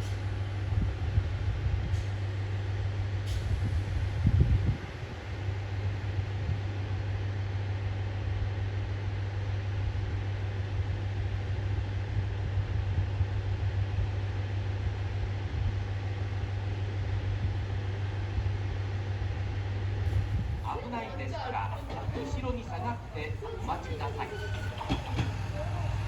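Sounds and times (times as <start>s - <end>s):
diesel railcar engine idling: 0.0s - 26.0s.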